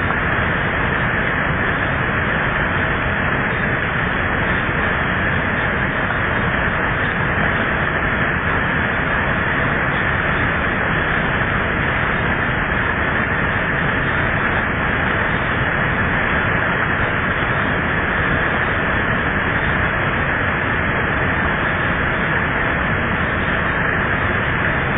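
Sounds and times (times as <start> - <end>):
heavy rain pouring: 0.0 - 24.9
rainwater splashing from roof: 0.0 - 24.9.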